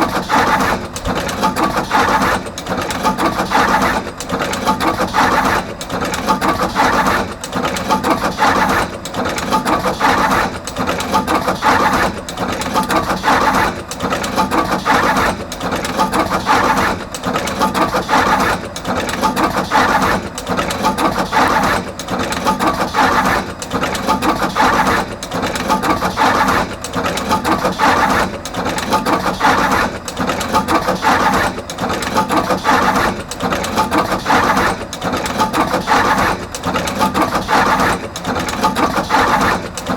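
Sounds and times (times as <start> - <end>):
wire crimping machine running: 0.0 - 39.9.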